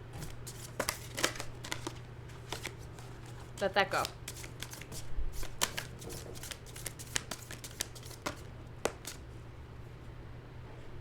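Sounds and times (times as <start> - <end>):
cards being shuffled: 0.2 - 9.3.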